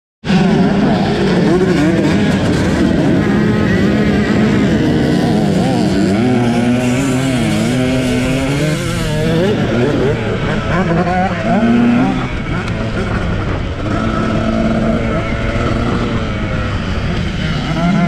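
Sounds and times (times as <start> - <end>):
motorcycle engine revving: 0.2 - 18.0.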